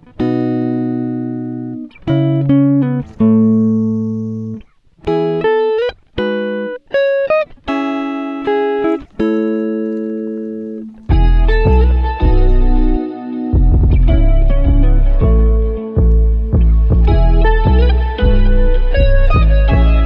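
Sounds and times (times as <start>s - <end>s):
guitar plucking notes and chords: 0.0s - 20.0s.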